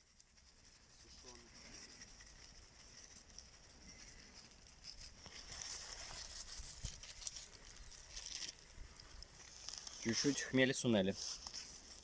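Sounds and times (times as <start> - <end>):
crackles and rustling: 0.0 - 12.0.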